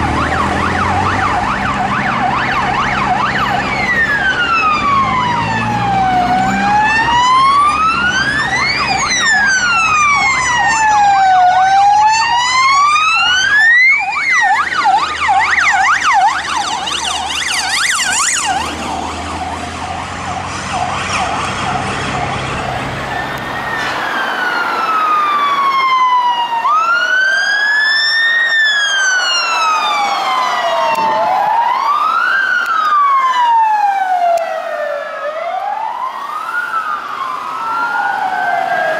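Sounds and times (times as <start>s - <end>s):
emergency siren wailing and yelping: 0.0s - 38.9s.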